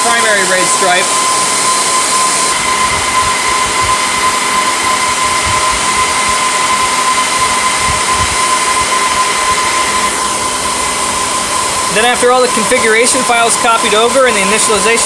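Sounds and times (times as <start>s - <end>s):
high fan whine: 0.0s - 15.0s
server fans whooshing: 0.0s - 15.0s.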